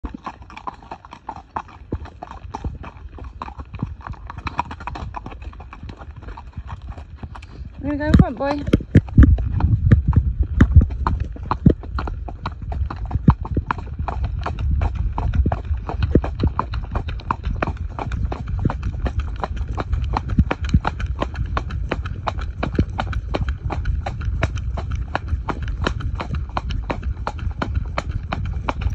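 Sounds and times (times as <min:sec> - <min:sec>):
hooves clip-clopping on tarmac: 0:00.0 - 0:28.9
low rumble: 0:01.9 - 0:28.9.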